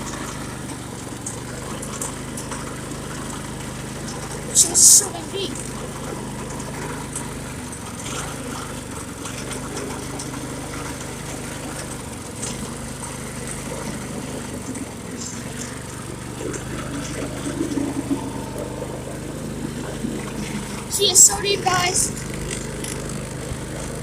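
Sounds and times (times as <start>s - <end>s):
go-kart engine running: 0.0s - 24.0s.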